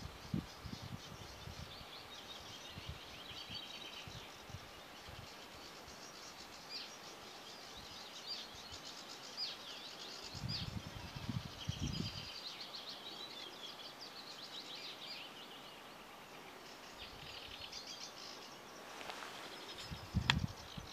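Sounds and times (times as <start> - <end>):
warbler singing chattering trills: 0.1 - 20.9.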